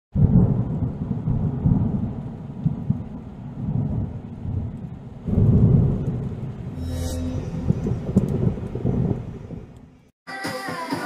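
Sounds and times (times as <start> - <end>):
rolling thunder: 0.2 - 6.8, 7.4 - 9.9.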